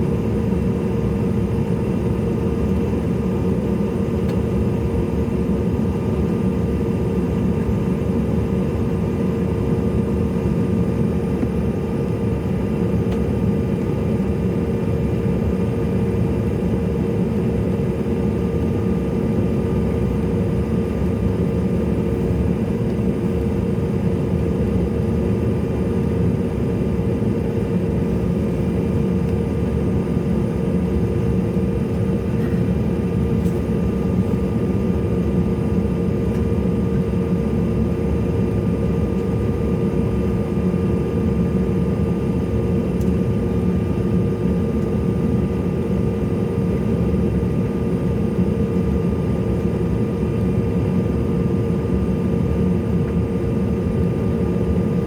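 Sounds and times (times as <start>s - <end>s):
jet engine hum and whine: 0.0s - 55.0s.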